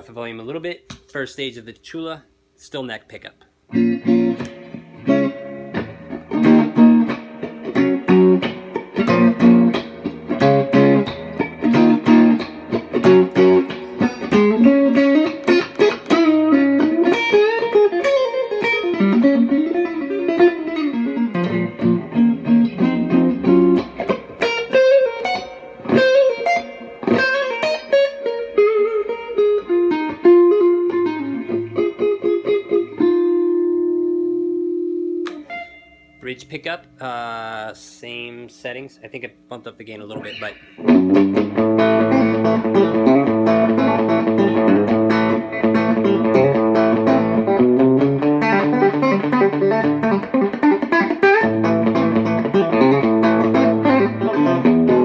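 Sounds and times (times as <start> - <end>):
electric guitar playing: 3.7 - 37.8, 40.0 - 55.0.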